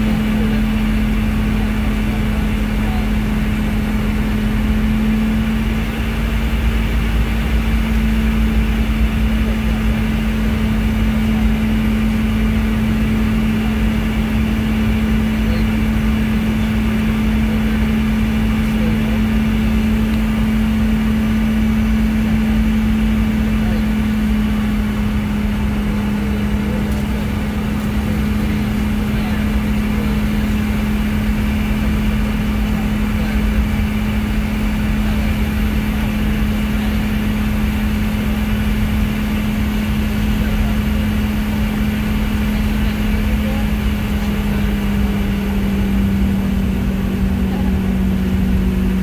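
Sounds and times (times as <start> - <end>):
jet engines rushing: 0.0 - 49.0
low steady drone: 0.0 - 49.0.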